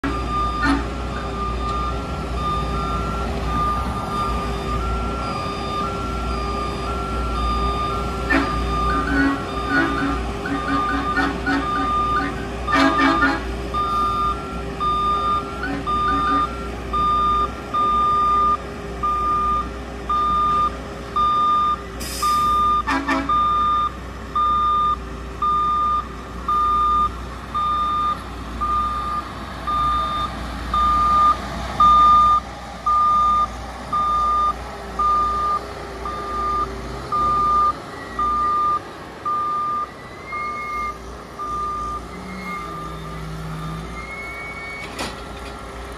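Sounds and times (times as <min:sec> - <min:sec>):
backup alarm beeping: 0:00.0 - 0:43.9
engine humming: 0:00.0 - 0:45.9.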